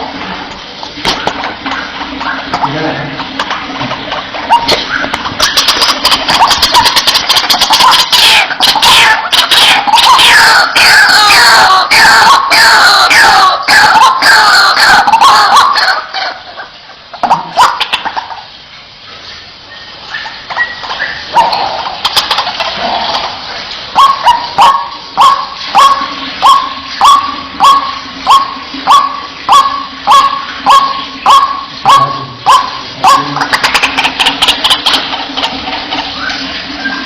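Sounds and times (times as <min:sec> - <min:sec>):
waterhen calling: 0:00.0 - 0:37.0.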